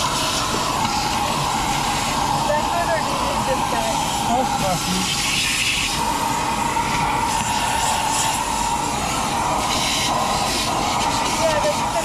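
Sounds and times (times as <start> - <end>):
portable vacuum whining: 0.0 - 12.0.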